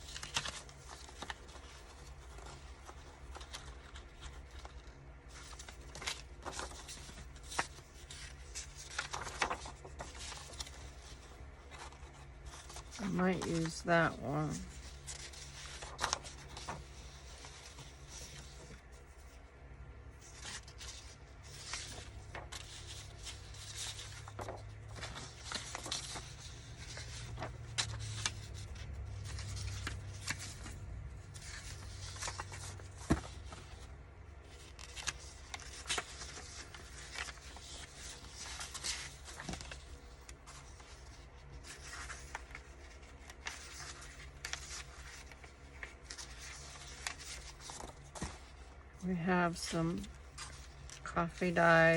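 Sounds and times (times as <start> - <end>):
papers rustling: 0.0 - 51.9
steady low hum: 0.0 - 51.9.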